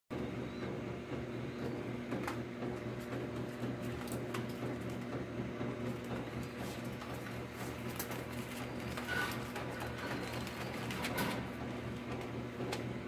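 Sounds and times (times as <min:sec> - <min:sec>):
low mechanical hum: 0:00.1 - 0:13.0.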